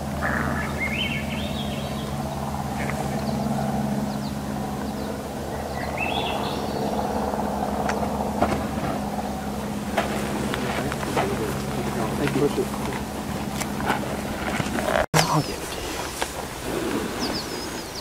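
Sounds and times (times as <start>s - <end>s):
low engine-like hum: 0.0s - 18.0s
songbird singing: 0.0s - 18.0s.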